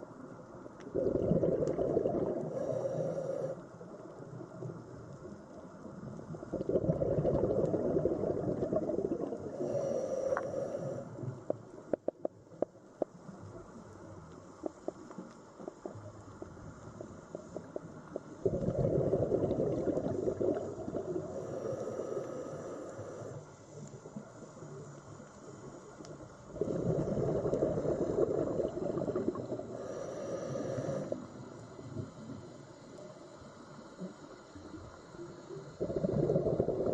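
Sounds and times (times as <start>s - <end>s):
underwater churning water: 0.9s - 12.3s, 14.5s - 32.9s, 33.8s - 36.9s.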